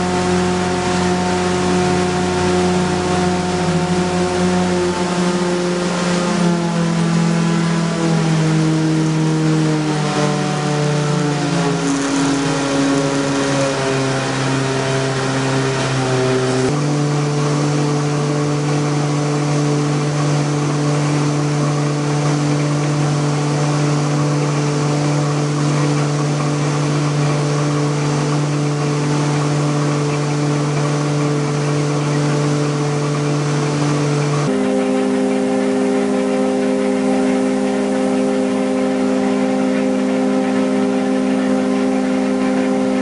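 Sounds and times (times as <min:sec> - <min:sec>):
loud machine hum: 0:00.0 - 0:43.0.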